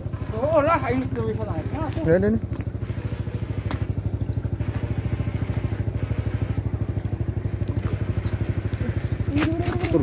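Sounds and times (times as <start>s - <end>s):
small motor pulsing: 0.0s - 10.0s.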